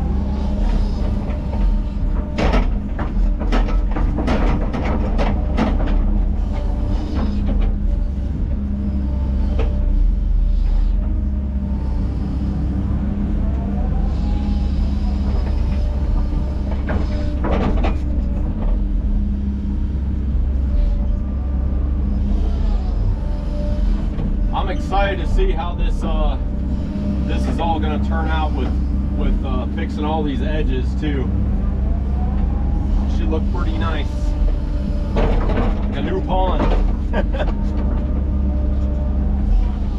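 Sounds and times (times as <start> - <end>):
track clanks and squeaks: 0.0 - 10.0, 13.5 - 39.9
diesel engine running: 0.0 - 39.9.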